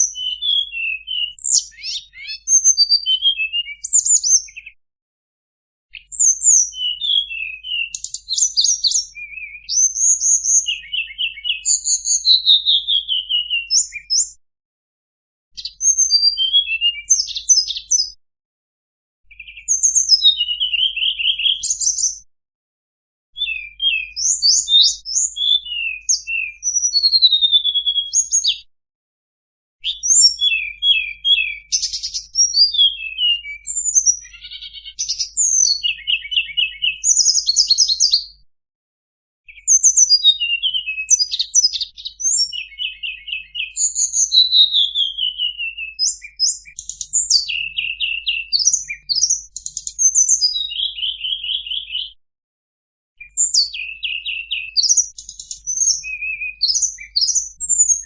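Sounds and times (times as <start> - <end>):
bird chirps trills and whistles: 0.0 - 4.8, 5.9 - 14.4, 15.6 - 18.2, 19.3 - 22.3, 23.4 - 28.7, 29.8 - 38.4, 39.5 - 52.2, 53.2 - 58.0.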